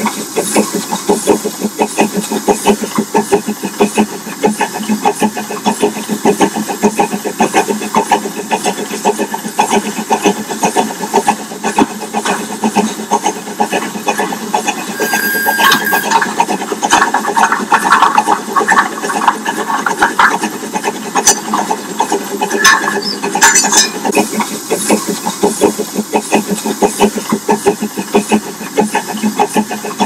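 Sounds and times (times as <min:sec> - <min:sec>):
steam locomotive exhaust beats: 0:00.0 - 0:30.0.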